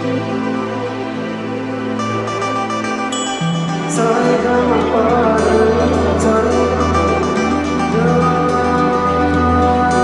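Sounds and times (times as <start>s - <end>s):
slow soft instrumental music: 0.0s - 10.0s.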